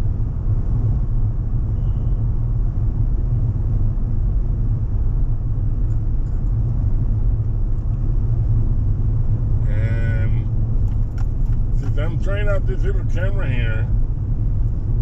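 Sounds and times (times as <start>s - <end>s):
truck cruising rumble: 0.0s - 15.0s.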